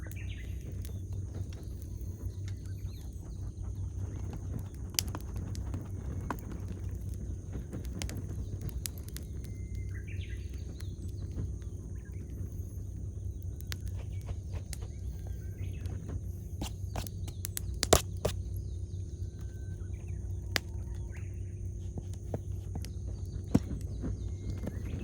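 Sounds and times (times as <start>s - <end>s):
bonfire crackling and popping: 0.0s - 25.0s.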